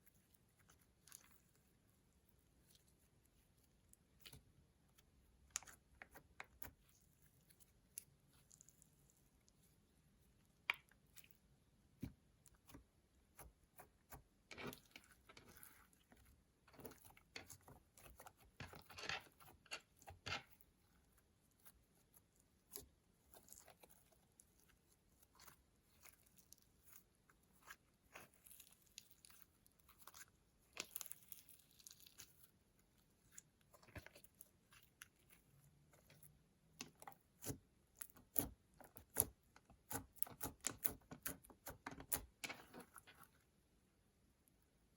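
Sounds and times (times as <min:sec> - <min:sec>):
slime crackling and squelching: 0:00.0 - 0:43.5.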